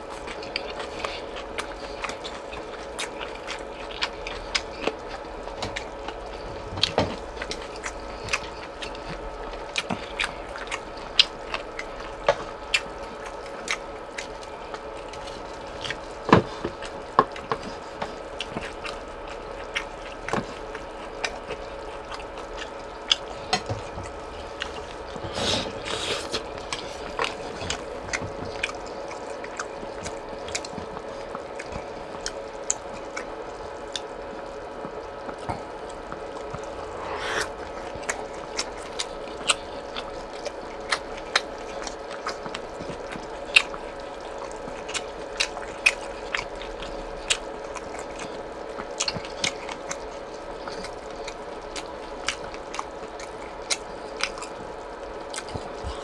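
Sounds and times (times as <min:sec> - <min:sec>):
steady low hum: 0:00.0 - 0:56.0
wet chewing mouth clicks: 0:00.1 - 0:56.0.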